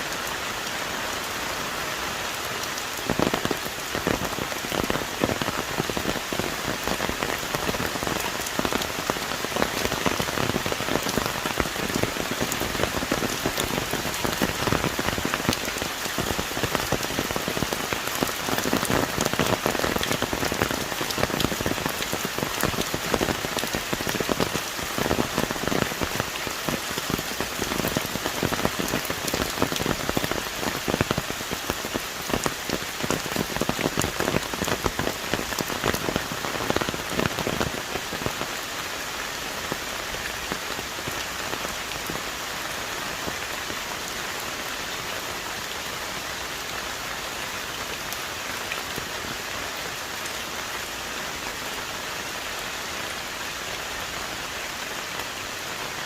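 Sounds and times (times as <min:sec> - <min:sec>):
heavy rain on trees: 0:00.0 - 0:56.0
large raindrops striking: 0:00.0 - 0:56.0.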